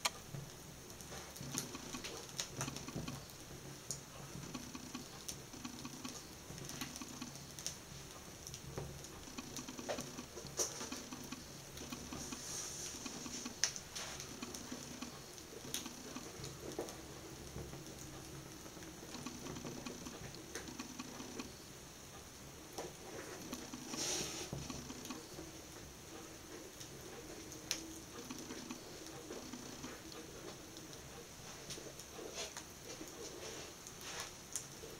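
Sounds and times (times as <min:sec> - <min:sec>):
sharp pops and ticks: 0:00.0 - 0:32.9
fire crackling: 0:00.0 - 0:34.9.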